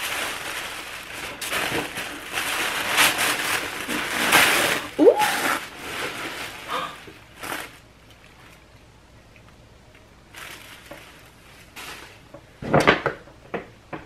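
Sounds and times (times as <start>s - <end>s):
paper wrapping rustling: 0.0s - 8.6s, 10.3s - 13.0s.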